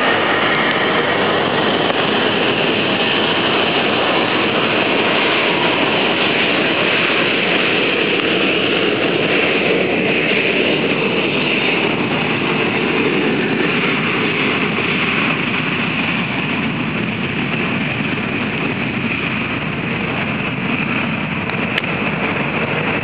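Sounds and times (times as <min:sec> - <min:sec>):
jet engines whining and rumbling: 0:00.0 - 0:23.0.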